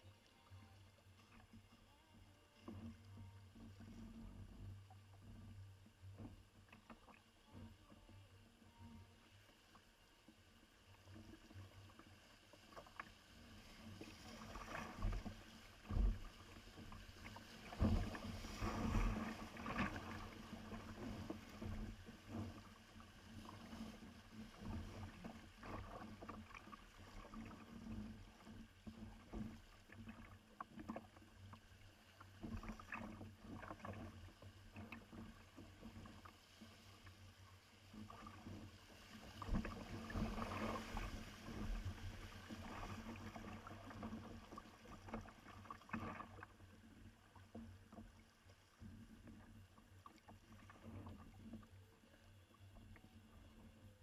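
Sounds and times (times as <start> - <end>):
water splashing against hull: 9.2 - 54.0.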